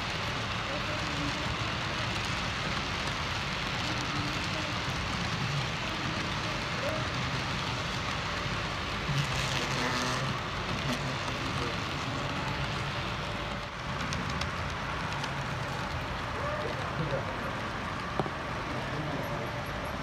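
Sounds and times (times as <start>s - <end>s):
model train wheels rolling on rails: 0.0s - 20.0s.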